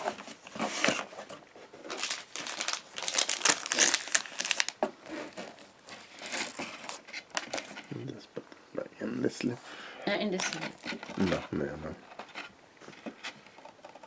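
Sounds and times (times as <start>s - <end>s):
cardboard packaging rustling: 0.0s - 7.9s, 10.4s - 14.0s.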